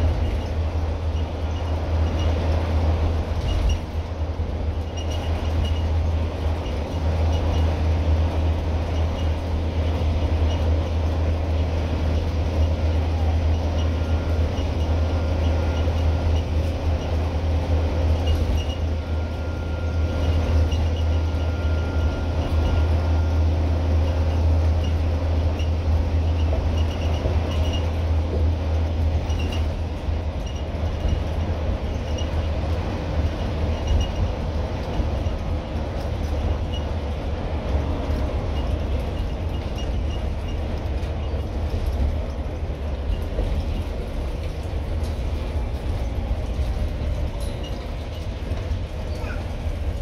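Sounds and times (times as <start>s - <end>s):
bus engine and road noise: 0.0s - 50.0s.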